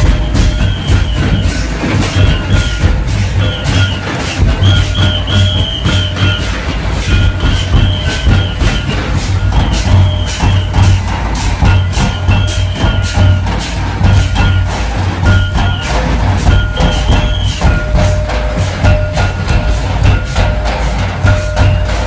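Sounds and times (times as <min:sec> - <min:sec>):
barrel drums beaten with sticks: 0:00.0 - 0:22.0.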